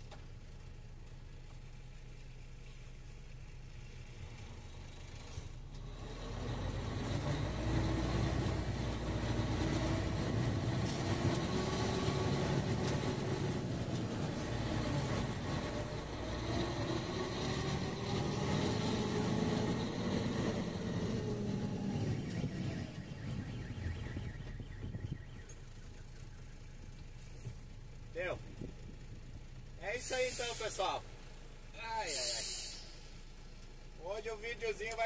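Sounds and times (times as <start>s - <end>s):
diesel truck engine: 0.0s - 35.0s.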